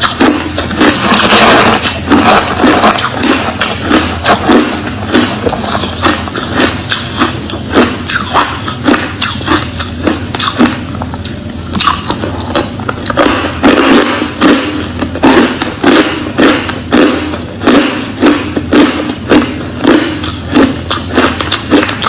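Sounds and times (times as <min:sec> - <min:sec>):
crushed ice being chewed: 0:00.0 - 0:22.0.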